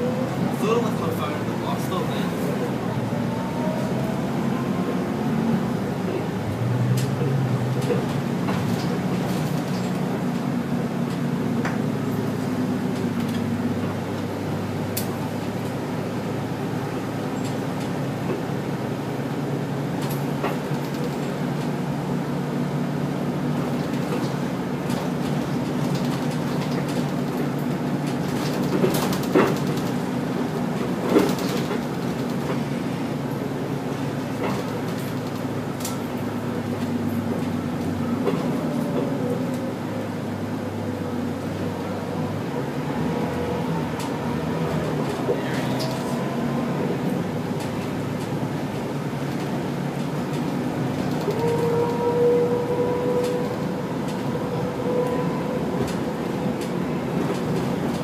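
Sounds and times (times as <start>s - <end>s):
bus engine droning: 0.0s - 58.0s
road noise: 0.0s - 58.0s.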